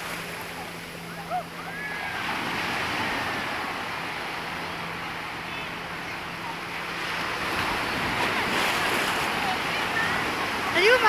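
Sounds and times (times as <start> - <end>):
sea water washing: 0.0 - 11.0.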